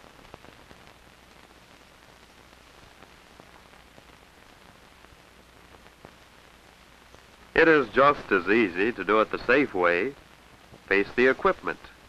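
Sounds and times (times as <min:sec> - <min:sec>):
small clicks and pops: 0:00.0 - 0:08.3, 0:08.9 - 0:12.0
film soundtrack hiss and hum: 0:00.0 - 0:12.0.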